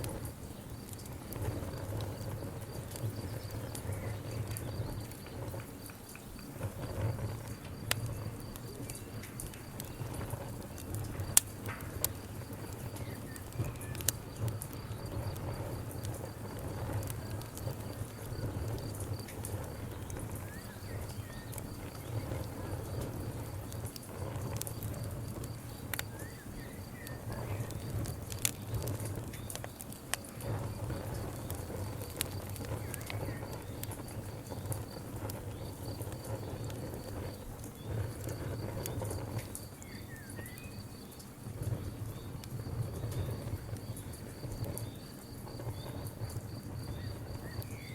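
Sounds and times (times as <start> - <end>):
campfire crackling and popping: 0.0 - 47.9
low rumble of flames: 0.0 - 47.9.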